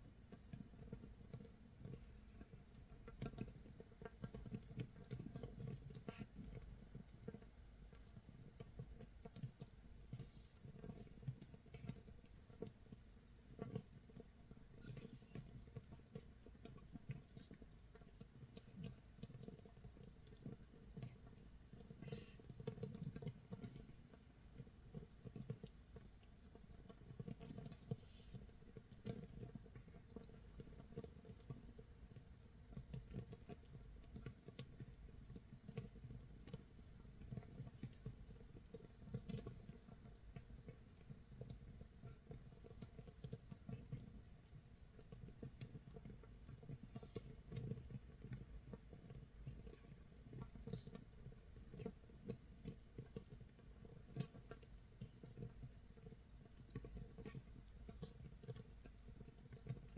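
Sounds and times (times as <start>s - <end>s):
fermenting mash bubbles popping: 0.0s - 59.9s.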